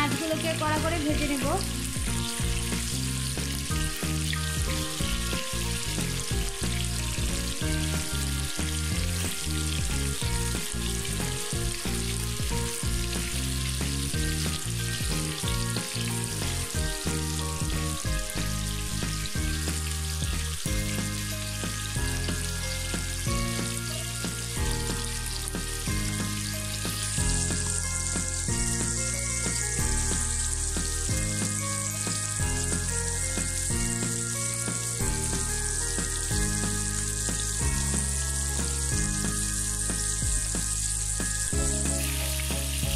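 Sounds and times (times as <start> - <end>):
fish sizzling in hot oil: 0.0 - 42.9
soft background music: 0.0 - 42.9.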